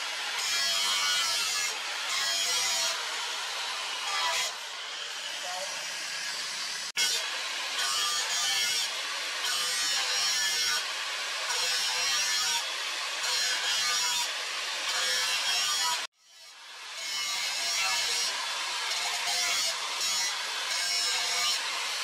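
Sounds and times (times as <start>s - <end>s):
angle grinder grinding steel: 0.0s - 22.0s.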